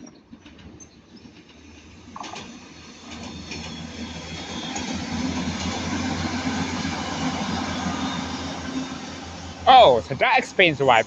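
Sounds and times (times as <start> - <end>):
diesel train running: 0.0 - 11.0.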